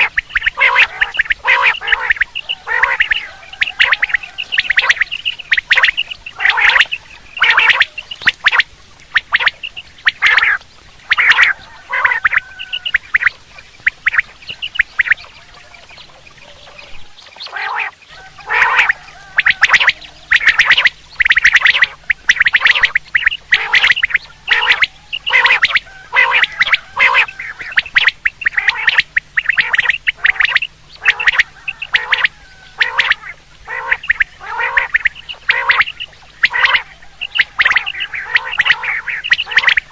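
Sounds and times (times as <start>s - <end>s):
quail calls: 0.0s - 39.9s.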